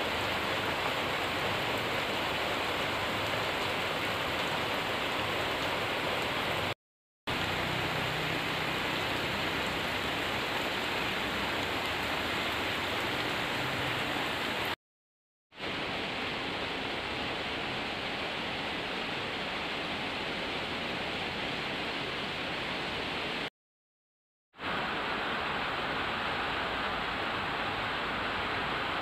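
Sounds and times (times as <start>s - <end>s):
steady rain falling: 0.0s - 14.8s, 15.6s - 23.5s, 24.6s - 29.0s.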